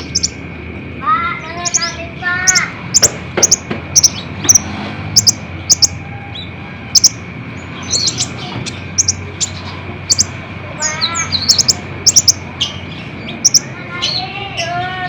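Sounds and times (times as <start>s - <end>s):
lower warbled bird notes: 1.6s - 14.8s.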